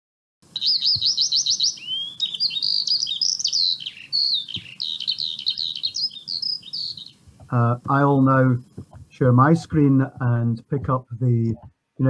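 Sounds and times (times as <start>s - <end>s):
songbirds singing: 0.4s - 10.6s.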